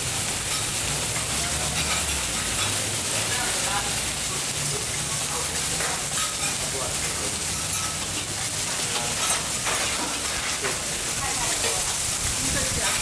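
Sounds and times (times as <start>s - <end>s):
eggs sizzling in hot oil: 0.0s - 13.0s.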